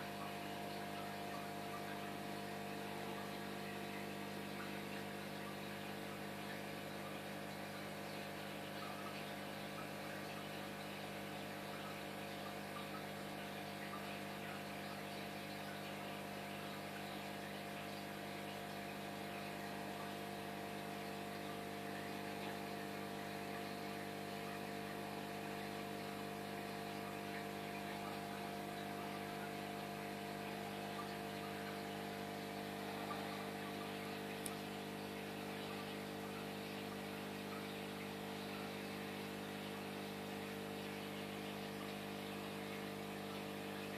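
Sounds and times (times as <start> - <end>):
aquarium air pump humming: 0.0 - 43.9.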